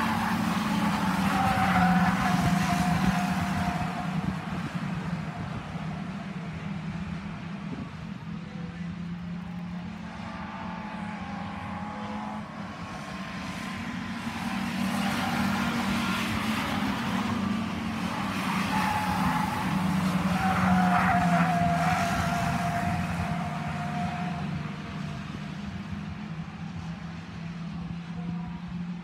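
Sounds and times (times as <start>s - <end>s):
stock car engines racing: 0.0s - 29.0s.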